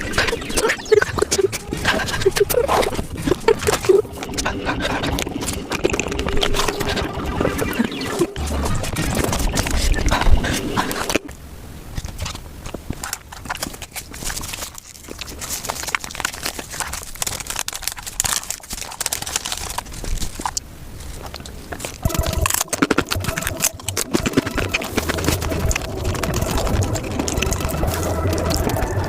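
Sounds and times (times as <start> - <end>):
sped-up eating crunches: 0.0 - 11.3, 13.0 - 29.0.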